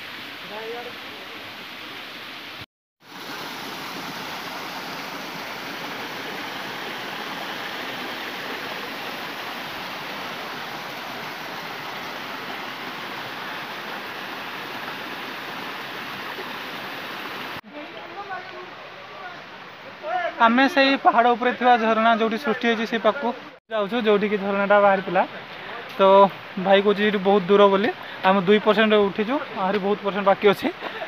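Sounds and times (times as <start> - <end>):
stream rushing over boulders: 0.0 - 31.0.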